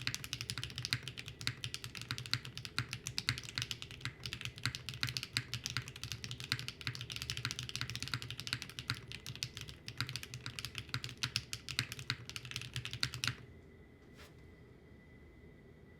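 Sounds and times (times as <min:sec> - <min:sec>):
mechanical keyboard typing: 0:00.0 - 0:13.4.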